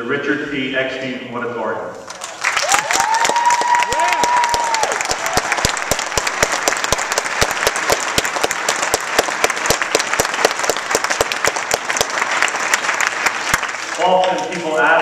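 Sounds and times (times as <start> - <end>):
audience applauding: 2.1 - 15.0.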